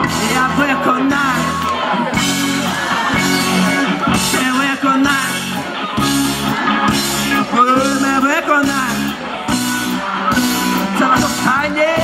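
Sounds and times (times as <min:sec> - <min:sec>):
drums: 0:00.0 - 0:12.0
electric guitars: 0:00.0 - 0:12.0
keyboards: 0:00.0 - 0:12.0.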